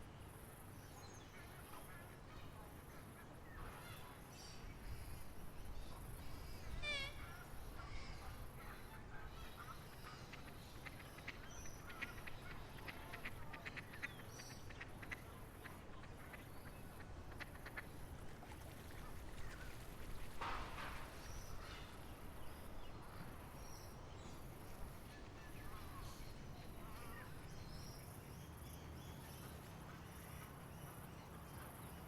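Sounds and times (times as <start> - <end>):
birds chirping: 3.4 - 32.0.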